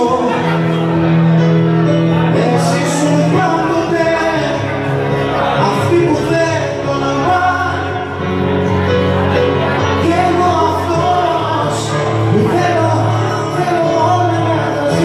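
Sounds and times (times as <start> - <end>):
instrumental backing with bass: 0.0 - 15.0
man singing into a microphone: 0.0 - 15.0.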